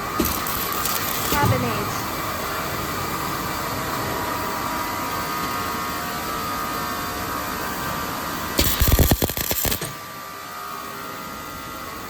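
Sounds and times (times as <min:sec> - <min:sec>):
machine hum and motor whine: 0:00.0 - 0:12.0.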